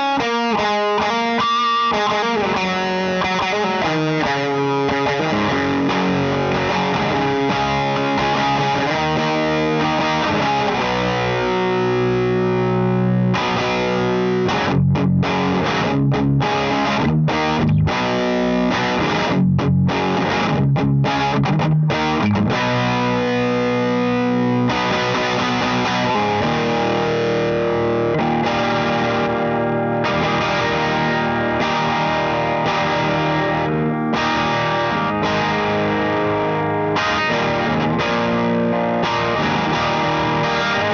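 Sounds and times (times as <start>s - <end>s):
distorted electric guitar chords: 0.0s - 40.9s.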